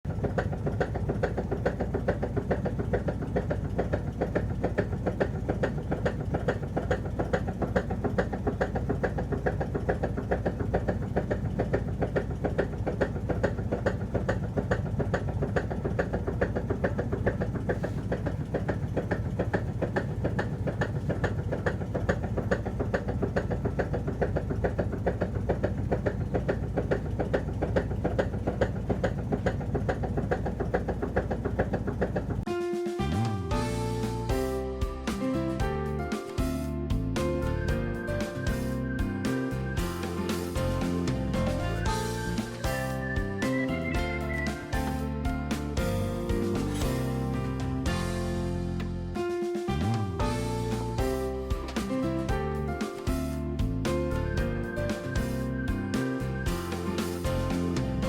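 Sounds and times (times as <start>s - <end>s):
washing machine spinning with knocking rattle: 0.0s - 32.5s, 33.5s - 48.2s, 50.2s - 58.0s.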